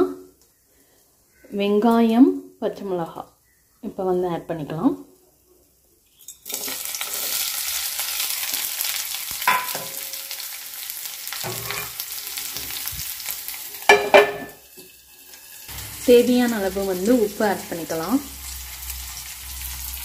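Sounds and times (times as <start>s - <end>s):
onion sizzling in hot oil: 1.7s - 20.0s.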